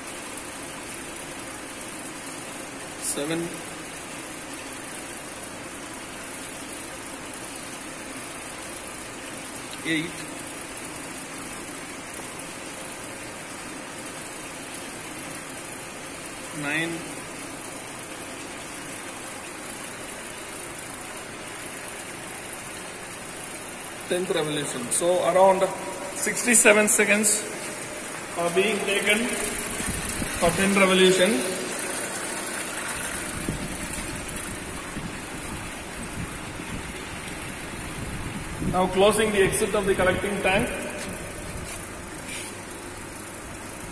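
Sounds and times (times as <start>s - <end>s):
pump running with faint hum: 0.0s - 43.9s
water flowing: 0.0s - 43.9s.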